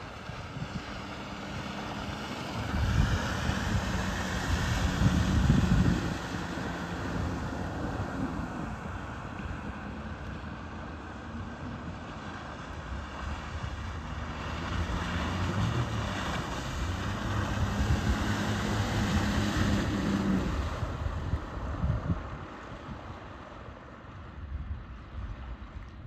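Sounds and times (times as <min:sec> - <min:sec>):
outboard motor passing by: 0:00.0 - 0:26.0.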